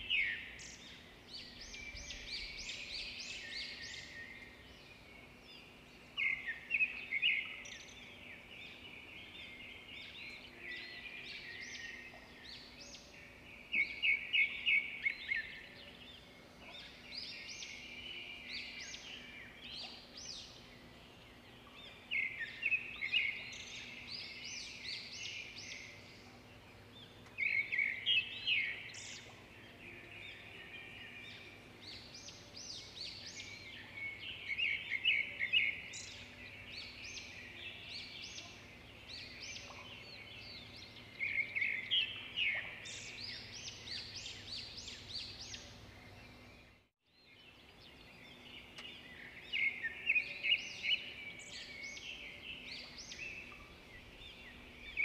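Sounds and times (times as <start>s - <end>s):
quiet bird chirps: 0.0s - 55.0s.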